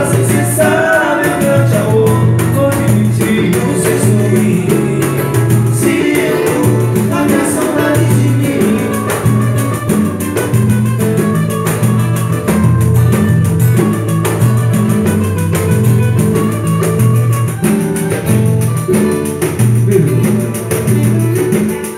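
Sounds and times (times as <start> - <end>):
low bass notes: 0.0 - 21.6
acoustic guitar strumming: 0.0 - 21.9
banjo strumming: 0.0 - 21.9
frame drum tapping: 0.0 - 21.9.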